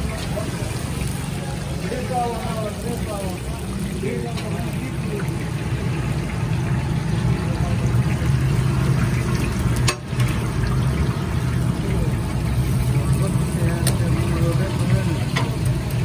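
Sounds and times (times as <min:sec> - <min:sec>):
oil bubbling and sizzling: 0:00.0 - 0:16.0.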